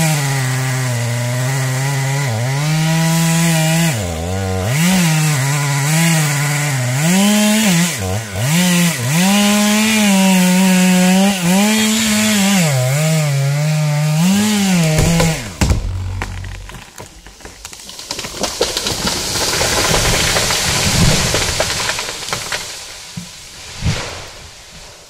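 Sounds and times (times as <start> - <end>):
chainsaw cutting wood: 0.0 - 23.4.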